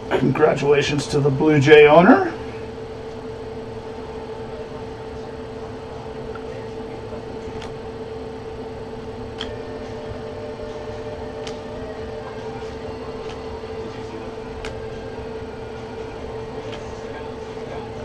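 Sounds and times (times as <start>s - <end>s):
fan hum: 0.0s - 18.0s.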